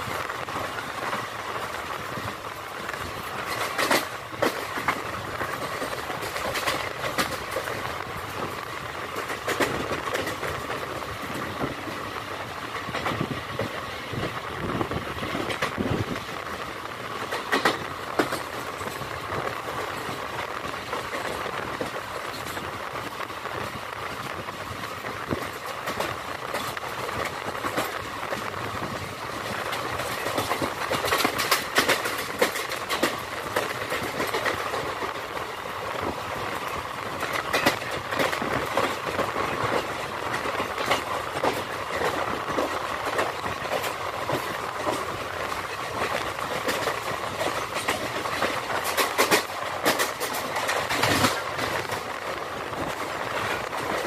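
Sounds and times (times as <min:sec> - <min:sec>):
train rumbling at speed: 0:00.0 - 0:54.0
wheels clacking over rail joints: 0:00.0 - 0:54.0.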